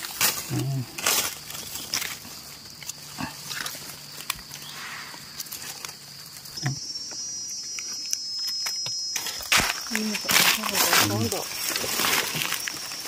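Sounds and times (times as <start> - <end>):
insects buzzing: 0.0 - 13.0
shrill insect whine: 0.0 - 13.0.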